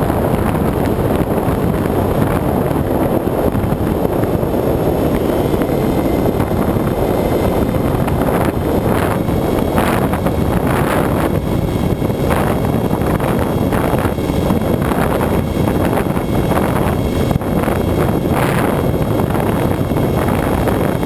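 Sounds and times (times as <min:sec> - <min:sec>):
electric motor and propeller: 0:00.0 - 0:21.0
wind buffeting microphone: 0:00.0 - 0:21.0.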